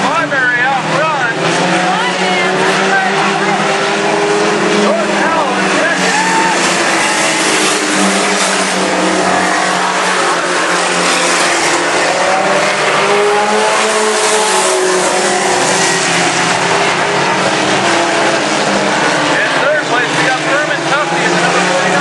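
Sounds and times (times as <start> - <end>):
race truck engines droning: 0.0 - 22.0.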